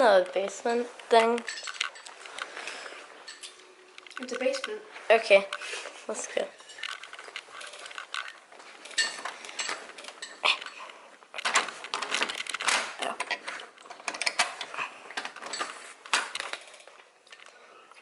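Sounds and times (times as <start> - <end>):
objects clattering and rustling: 0.0 - 17.6.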